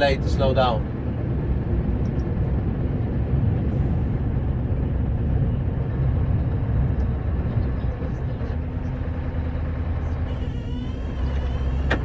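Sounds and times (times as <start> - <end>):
truck engine: 0.0 - 12.0.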